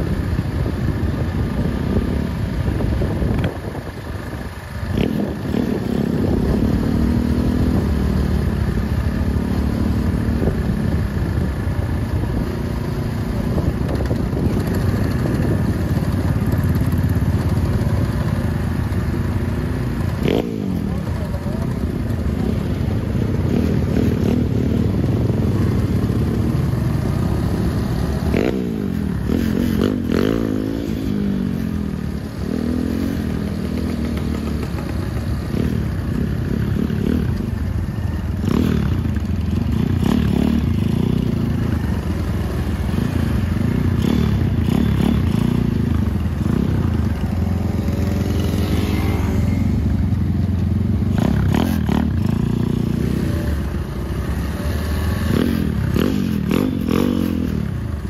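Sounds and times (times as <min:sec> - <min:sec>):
small motorcycle engines revving: 0:00.0 - 0:58.0.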